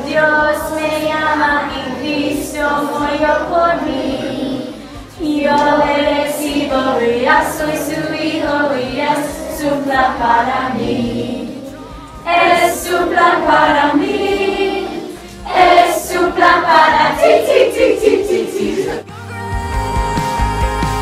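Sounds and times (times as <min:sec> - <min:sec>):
group of voices singing: 0:00.0 - 0:21.0.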